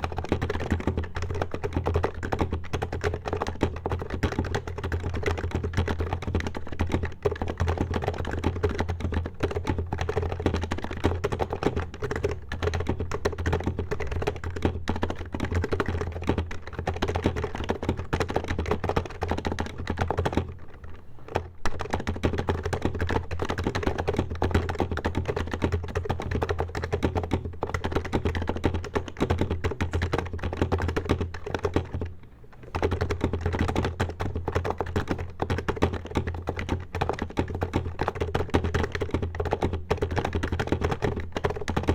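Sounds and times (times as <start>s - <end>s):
fast keyboard typing: 0.0s - 41.9s.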